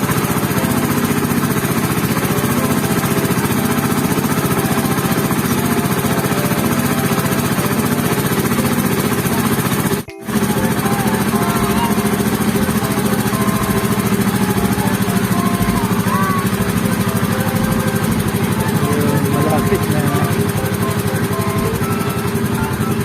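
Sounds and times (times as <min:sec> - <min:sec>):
boat engine chugging: 0:00.0 - 0:23.0.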